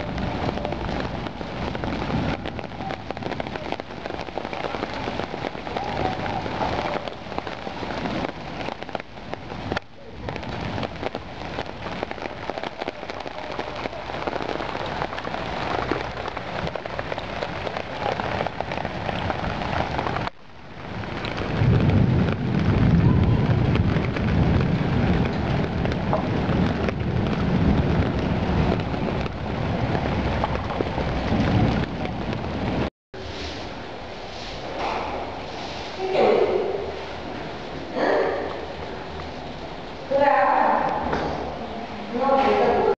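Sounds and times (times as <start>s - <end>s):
heavy rain splashing into water: 0.0s - 42.9s
ragged low rumble: 0.0s - 42.9s.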